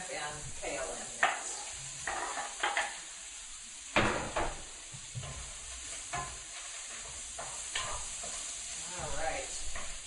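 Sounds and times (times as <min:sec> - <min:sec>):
vegetables sizzling in a skillet: 0:00.0 - 0:10.0.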